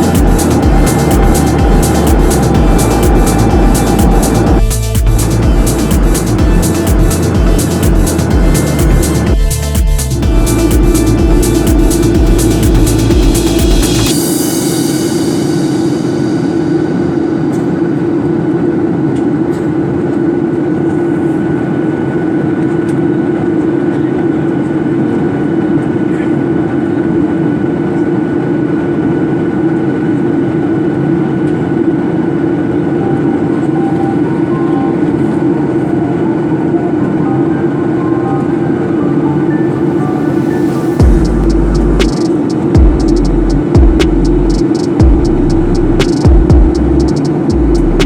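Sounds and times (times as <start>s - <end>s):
jet airliner cabin noise: 0.0s - 4.6s, 10.3s - 48.0s
faint steady whine: 0.0s - 48.0s.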